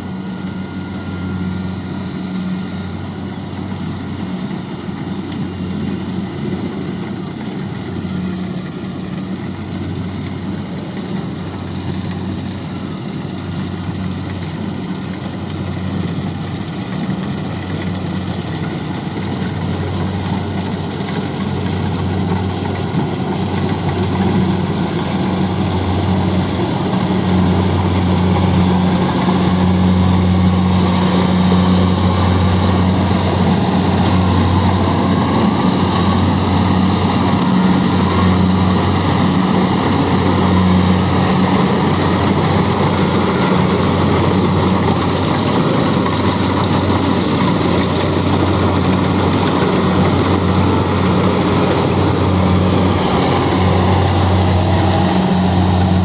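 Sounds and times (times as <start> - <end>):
harvesting machine engine running: 0.0 - 56.0.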